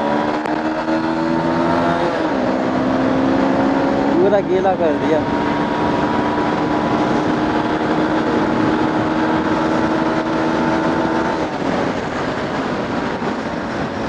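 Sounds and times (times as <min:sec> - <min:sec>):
motorcycle engine running: 0:00.0 - 0:14.0
wind rushing over microphone: 0:00.0 - 0:14.0.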